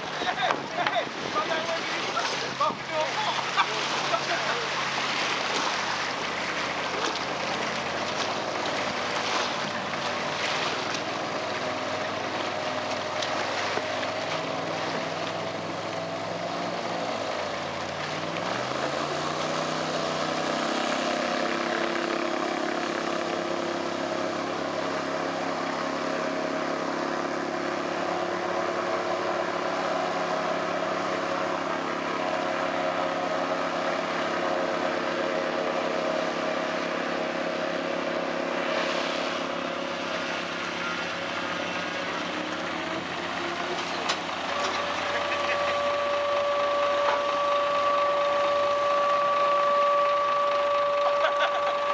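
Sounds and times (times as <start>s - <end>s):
airboat engine and propeller: 0.0s - 51.9s.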